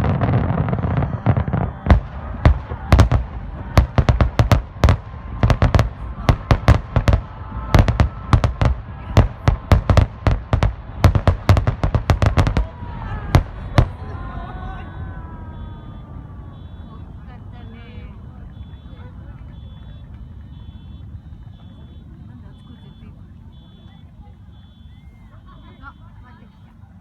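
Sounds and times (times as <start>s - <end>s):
fireworks bursts rumbling: 0.0s - 27.0s.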